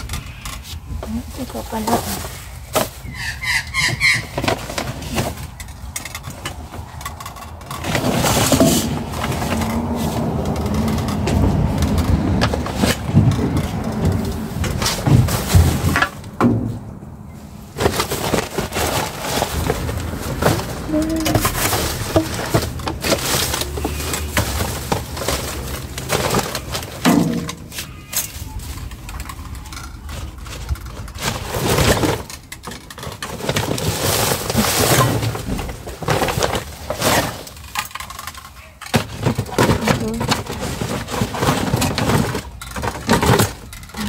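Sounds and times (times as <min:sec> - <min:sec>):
plastic bags rustling: 0:00.0 - 0:44.0.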